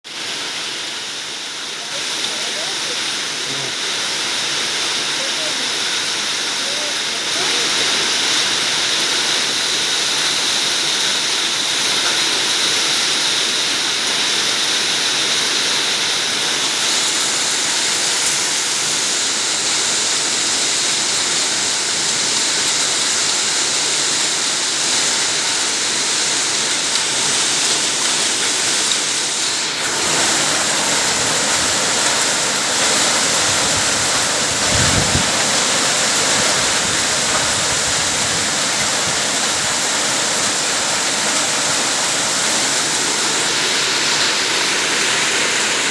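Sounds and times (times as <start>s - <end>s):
heavy rain and hail pouring: 0.1s - 45.9s.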